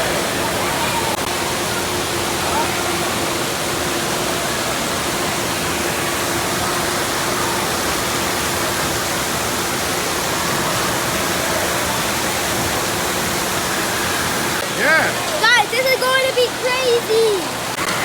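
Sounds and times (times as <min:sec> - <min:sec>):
falling and splashing water: 0:00.0 - 0:18.0.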